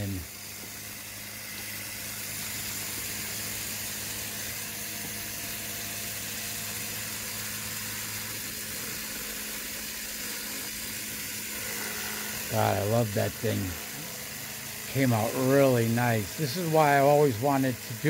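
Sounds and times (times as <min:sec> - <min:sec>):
motor rotor whirring: 0:00.0 - 0:18.0.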